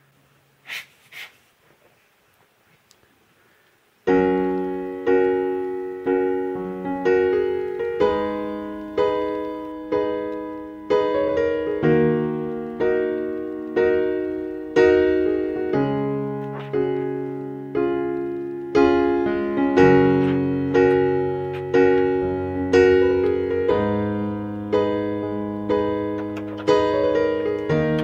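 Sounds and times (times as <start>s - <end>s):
piano chords: 4.0s - 28.0s.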